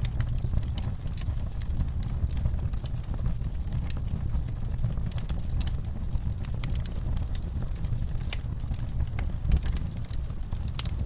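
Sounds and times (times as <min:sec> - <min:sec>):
low rumble of flames: 0:00.0 - 0:11.0
wood fire crackling and popping: 0:00.0 - 0:11.0.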